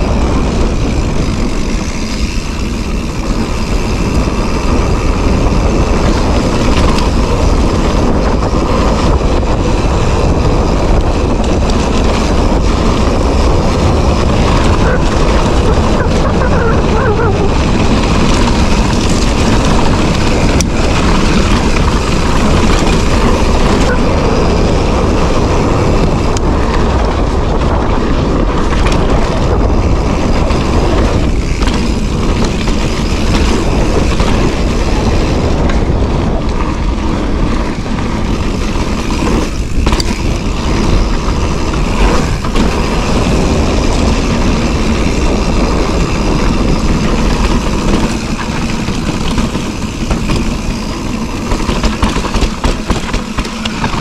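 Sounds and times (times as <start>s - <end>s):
bike tyres rolling on dirt: 0.0s - 54.0s
wind buffeting microphone: 0.0s - 54.0s.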